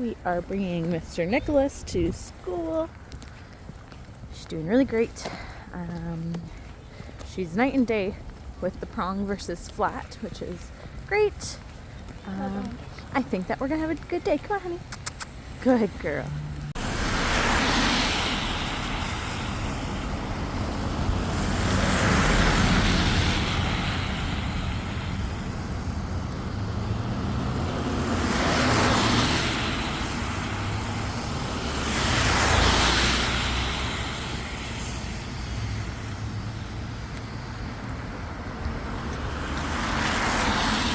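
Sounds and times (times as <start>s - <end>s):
cars passing: 0.0s - 40.9s
low traffic rumble: 0.0s - 40.9s.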